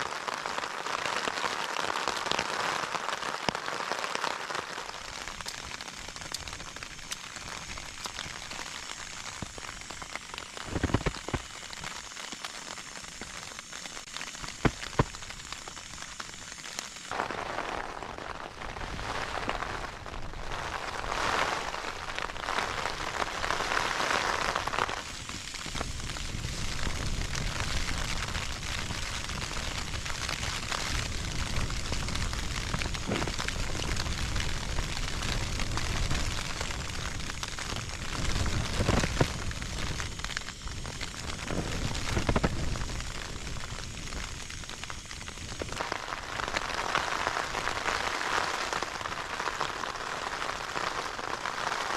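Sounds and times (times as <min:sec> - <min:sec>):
rain drumming on tent: 0:00.0 - 0:51.9.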